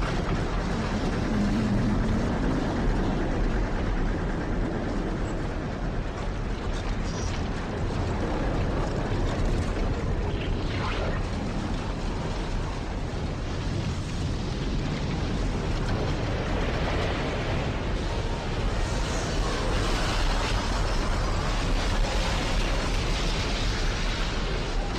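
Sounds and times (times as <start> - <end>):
rumbling tornado wind roar: 0.0 - 24.9.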